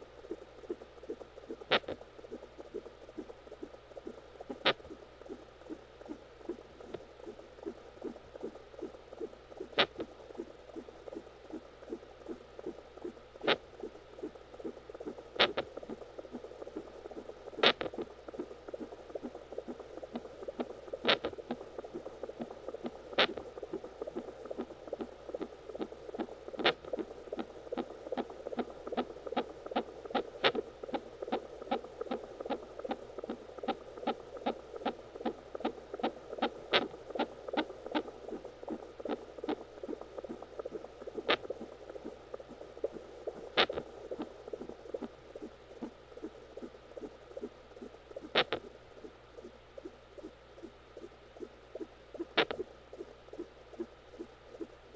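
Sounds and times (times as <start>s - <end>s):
fast fetal heartbeat: 0.0s - 54.9s.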